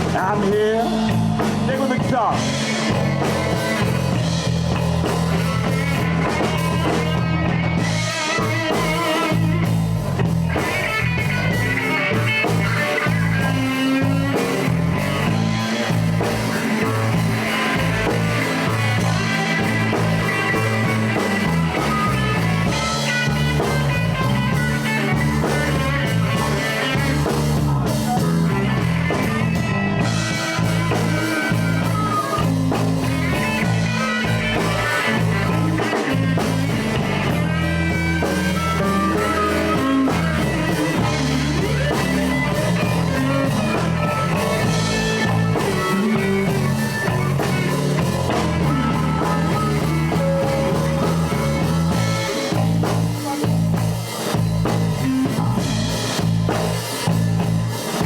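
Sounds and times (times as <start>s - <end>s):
blues band playing: 0.0s - 58.0s
electric guitar solo: 0.0s - 58.0s.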